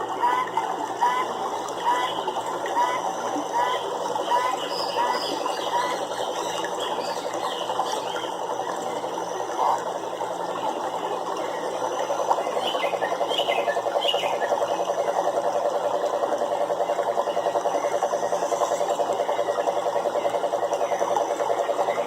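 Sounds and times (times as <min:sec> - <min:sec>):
frogs calling: 0:00.0 - 0:22.0.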